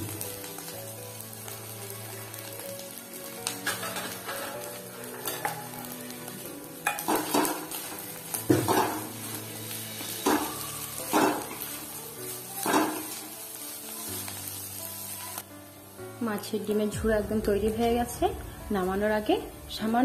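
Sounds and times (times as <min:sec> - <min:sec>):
food sizzling in pan: 0:00.0 - 0:20.0.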